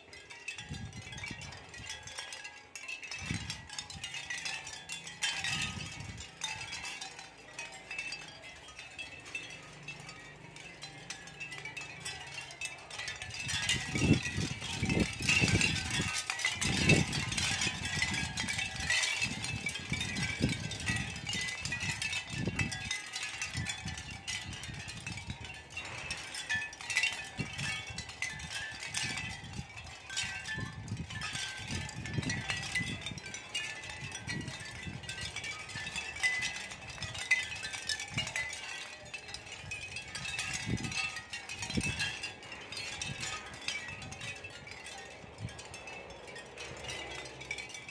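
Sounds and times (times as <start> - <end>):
shell wind chime tinkling: 0.0 - 47.9
wind rumbling on microphone: 0.5 - 7.3, 11.7 - 47.9.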